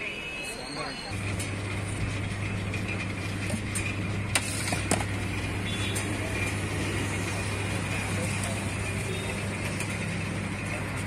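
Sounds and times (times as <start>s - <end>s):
low motor hum: 1.2s - 11.0s.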